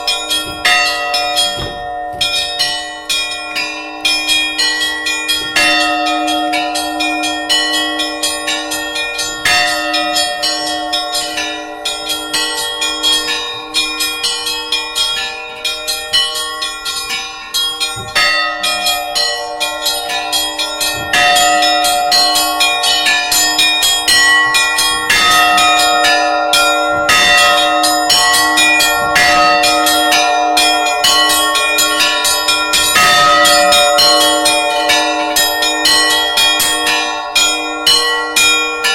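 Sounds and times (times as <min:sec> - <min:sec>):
large bell sustained tone: 0:00.0 - 0:38.9
small church bells ringing: 0:00.0 - 0:38.9.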